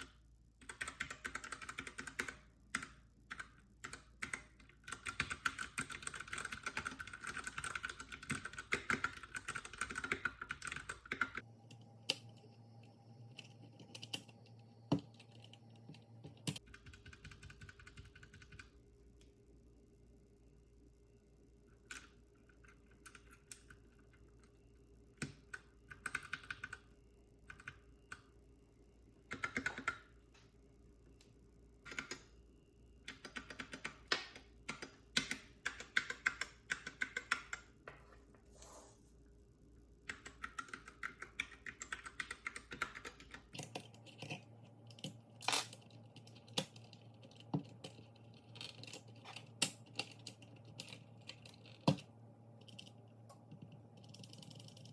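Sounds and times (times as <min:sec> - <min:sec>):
mechanical keyboard typing: 0:00.0 - 0:12.4, 0:13.2 - 0:18.8, 0:21.8 - 0:24.5, 0:25.1 - 0:28.3, 0:29.2 - 0:30.1, 0:31.8 - 0:32.4, 0:33.0 - 0:37.7, 0:40.0 - 0:54.9.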